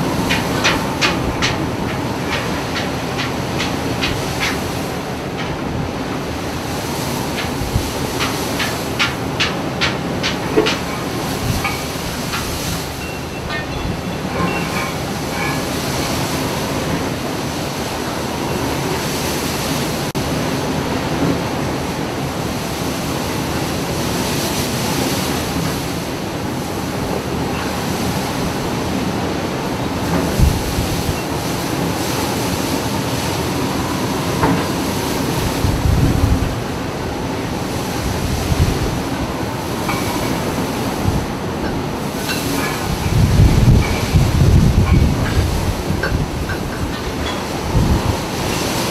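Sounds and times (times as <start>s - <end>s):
waves: 0.0s - 48.9s
wind: 0.0s - 48.9s.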